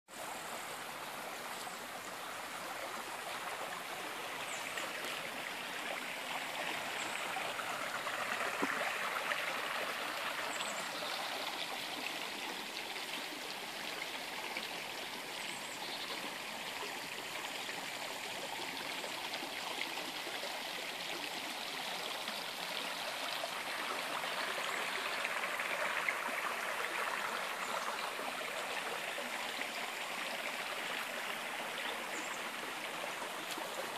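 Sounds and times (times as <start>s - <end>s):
stream flowing: 0.1s - 33.9s.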